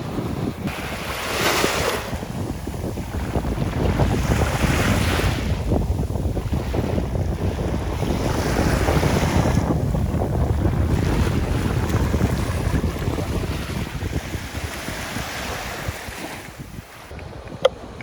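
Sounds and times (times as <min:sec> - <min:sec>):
sea waves rushing on shore: 0:00.0 - 0:18.0
wind buffeting microphone: 0:00.0 - 0:18.0.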